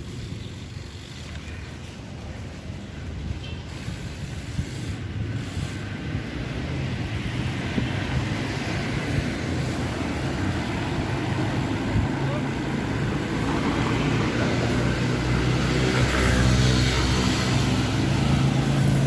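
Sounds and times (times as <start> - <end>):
road noise: 0.0 - 19.0
wind buffeting: 0.0 - 19.0.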